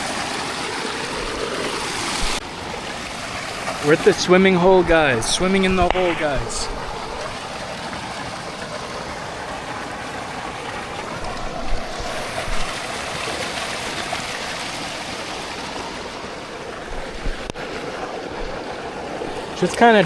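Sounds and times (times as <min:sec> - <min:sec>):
water rushing in stream: 0:00.0 - 0:20.0.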